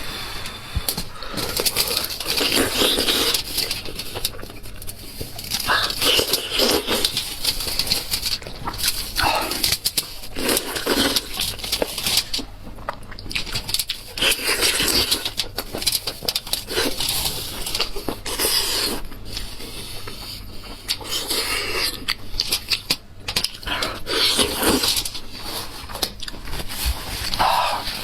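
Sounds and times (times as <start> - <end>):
wet chewing and smacking: 0.4 - 28.0.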